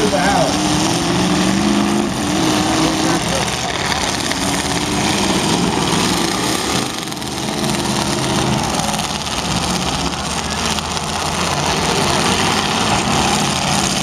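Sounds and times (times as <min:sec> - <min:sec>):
car engines running: 0:00.0 - 0:14.0.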